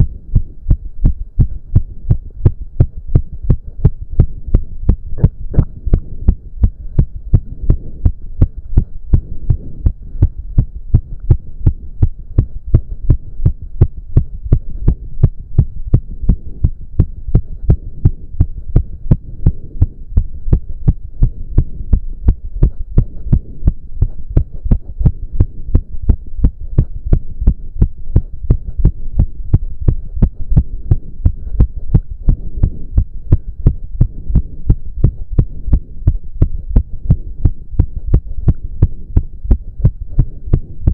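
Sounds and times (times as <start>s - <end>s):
fast pounding heartbeat: 0.0s - 40.9s.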